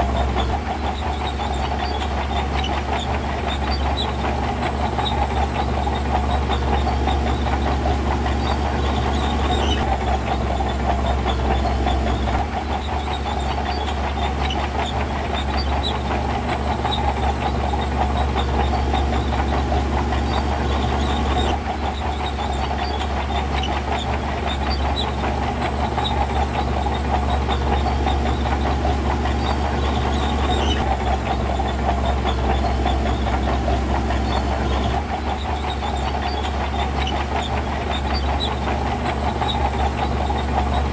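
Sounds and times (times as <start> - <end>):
diesel machinery engine drone: 0.0 - 40.9.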